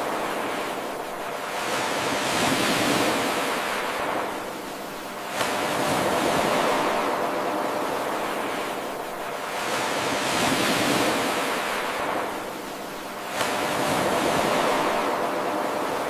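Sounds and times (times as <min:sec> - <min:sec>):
ocean waves washing on shore: 0:00.0 - 0:16.0.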